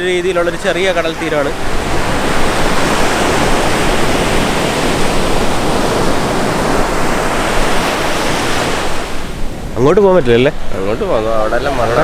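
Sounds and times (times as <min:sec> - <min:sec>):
sea surf breaking: 0:00.0 - 0:12.0.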